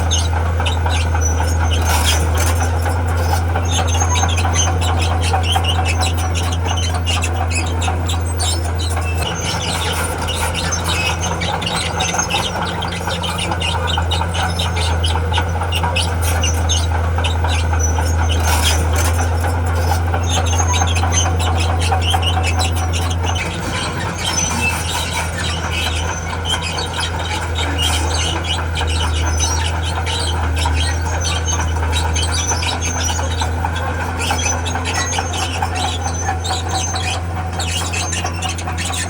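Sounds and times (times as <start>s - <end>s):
diesel engine running under load: 0.0s - 39.0s
steel tracks squealing and clanking: 0.0s - 39.0s.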